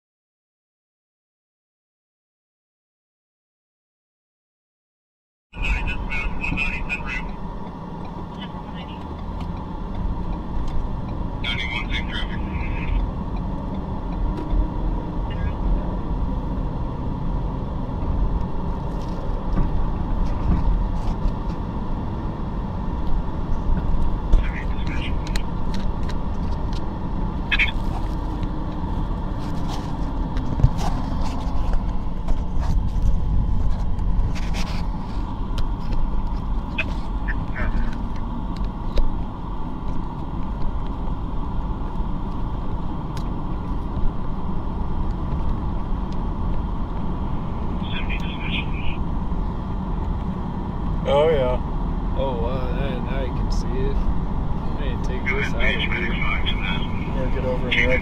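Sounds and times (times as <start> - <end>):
car cabin road rumble: 5.6 - 58.0.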